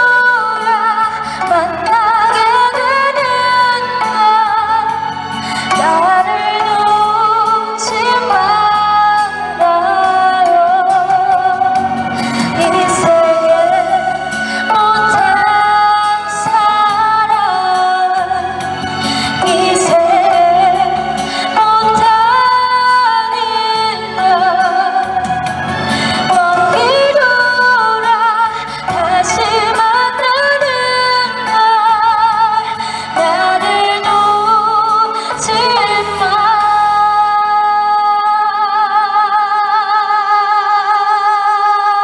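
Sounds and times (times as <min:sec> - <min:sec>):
backing music: 0:00.0 - 0:42.0
woman singing a slow ballad: 0:00.0 - 0:42.0.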